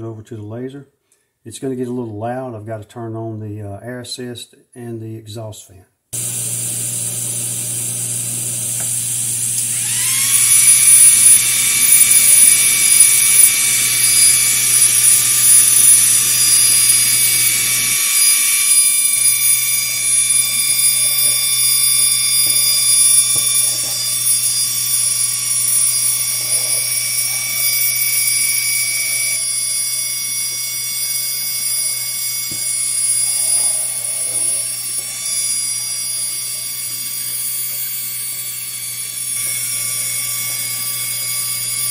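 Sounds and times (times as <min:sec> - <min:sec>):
high whine spinning up: 0:06.2 - 0:41.9
laser head short whirs: 0:07.7 - 0:41.9.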